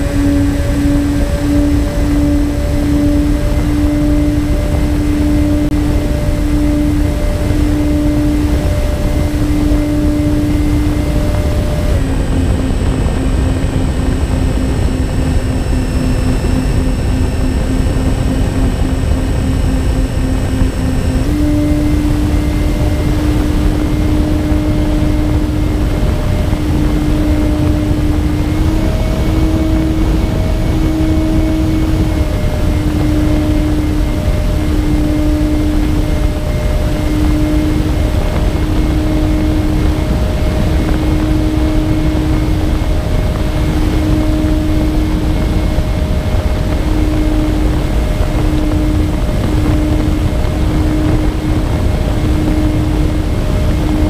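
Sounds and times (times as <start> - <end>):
electric motors and propellers: 0.0 - 54.0
wind rush on microphone: 0.0 - 54.0.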